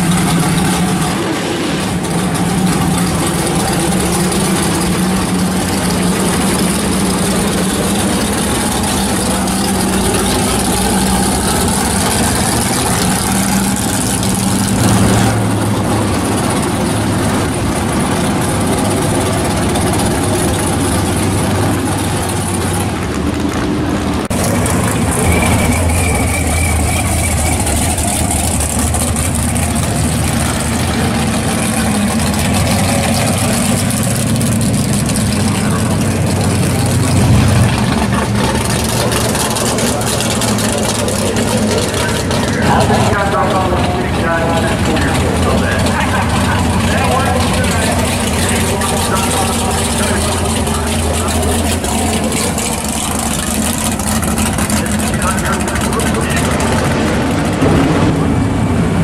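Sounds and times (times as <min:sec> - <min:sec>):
loud drag-car engines idling: 0:00.0 - 0:59.0.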